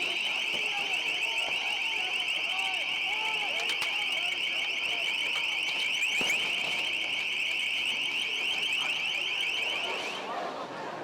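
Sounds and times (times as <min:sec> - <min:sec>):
shrill high-pitched whistling: 0:00.0 - 0:10.2.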